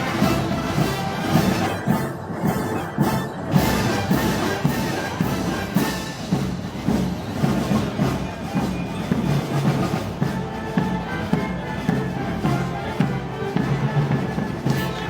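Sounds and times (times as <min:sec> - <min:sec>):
wind band playing a march: 0:00.0 - 0:15.0.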